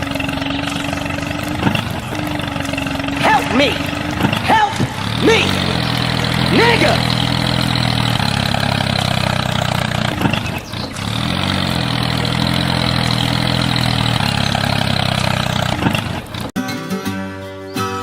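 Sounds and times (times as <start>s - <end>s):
engine idling: 0.0s - 16.6s.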